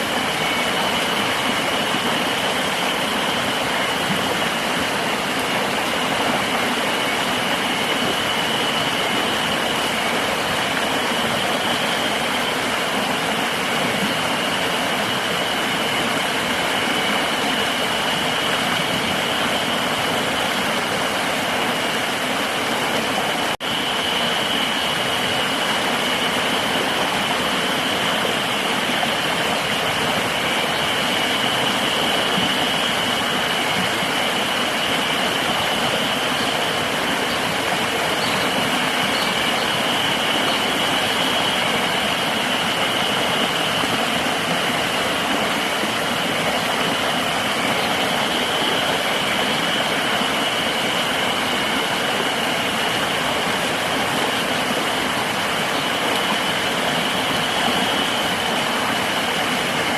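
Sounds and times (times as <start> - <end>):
rushing river water: 0.0 - 59.9.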